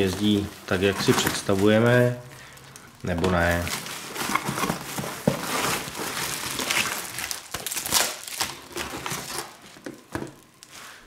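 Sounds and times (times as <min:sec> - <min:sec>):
hands rummaging in cardboard box: 0:00.0 - 0:02.0, 0:03.1 - 0:10.3
bubble wrap and plastic crinkling: 0:00.0 - 0:11.0.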